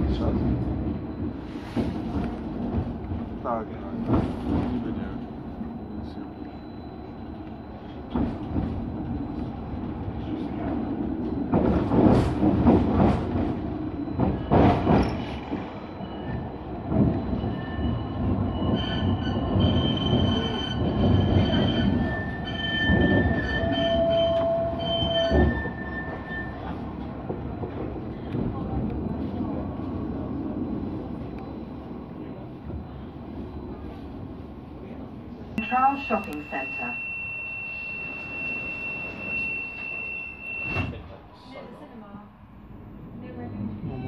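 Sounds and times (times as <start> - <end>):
tram running on rails: 0.0 - 44.0.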